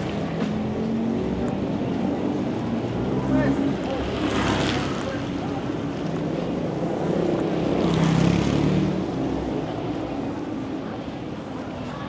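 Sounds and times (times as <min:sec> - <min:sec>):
passing vehicle engines: 0:00.0 - 0:12.0.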